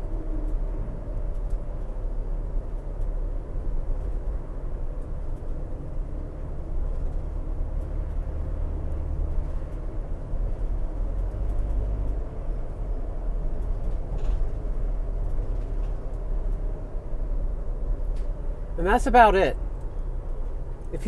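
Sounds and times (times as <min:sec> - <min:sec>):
car tyres rumbling on road: 0:00.0 - 0:21.0.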